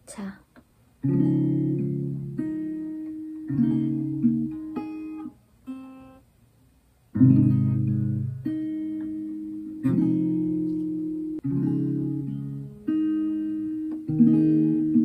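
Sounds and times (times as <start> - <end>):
acoustic guitar chords: 1.0 - 6.3, 7.1 - 15.0.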